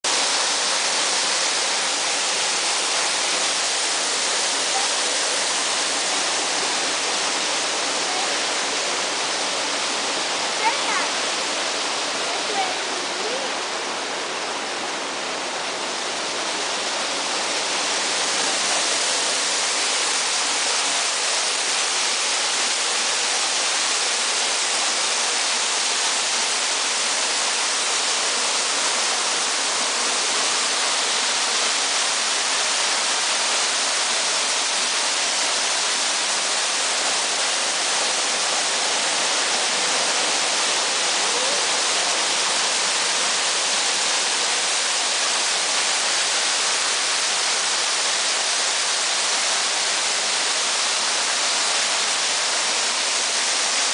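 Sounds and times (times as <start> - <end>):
waterfall splashing into pool: 0.0 - 53.9.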